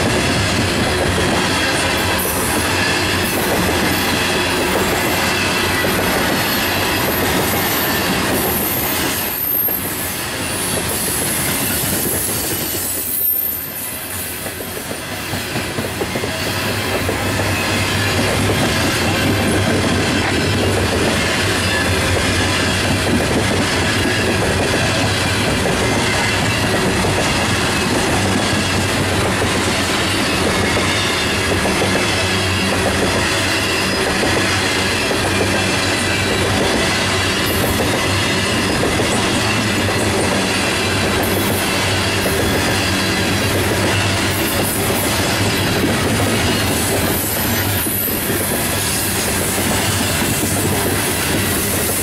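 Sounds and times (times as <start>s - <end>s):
train wheels on rails: 0.0s - 52.0s
high wheel squeal: 1.4s - 19.6s, 23.7s - 52.0s.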